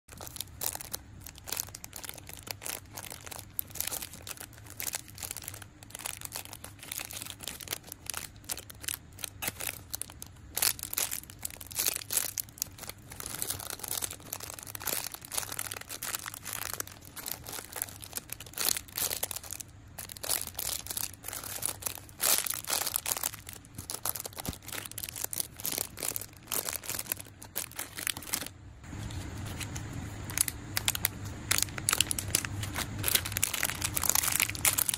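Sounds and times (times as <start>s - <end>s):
plastic bags crinkling: 0.1s - 34.9s.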